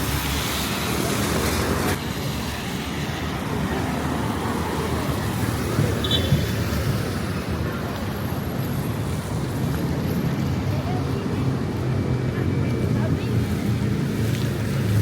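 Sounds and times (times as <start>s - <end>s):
traffic rumble and tyre hiss: 0.0s - 15.0s.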